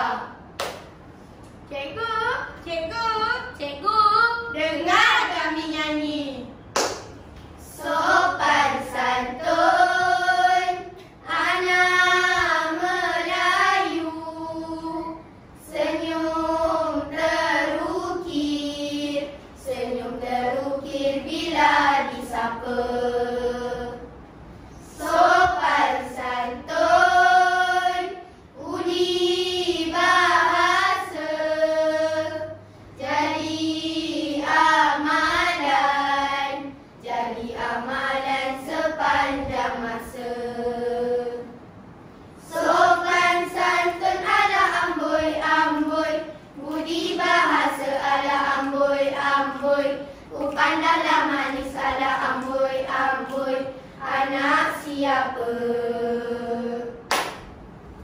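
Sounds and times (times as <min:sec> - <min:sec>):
children's choir singing: 0:00.0 - 0:00.6, 0:07.6 - 0:24.2, 0:24.8 - 0:41.8, 0:42.4 - 0:57.4.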